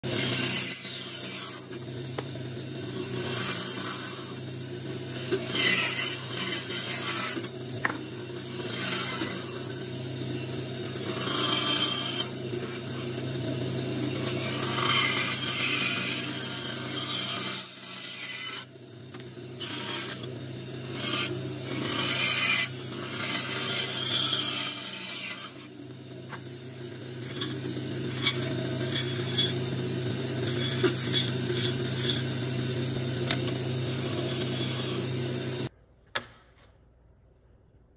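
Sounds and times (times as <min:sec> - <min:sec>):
saw blade cutting wood: 0:00.0 - 0:02.2, 0:02.9 - 0:04.4, 0:05.0 - 0:10.0, 0:10.8 - 0:13.3, 0:14.0 - 0:25.7, 0:26.3 - 0:35.7
bandsaw humming: 0:00.0 - 0:35.7.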